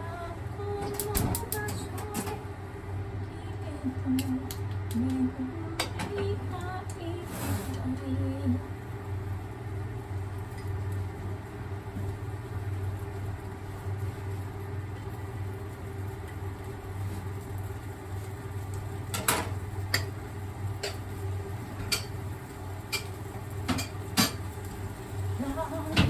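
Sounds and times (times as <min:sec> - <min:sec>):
fan motor humming: 0:00.0 - 0:26.0.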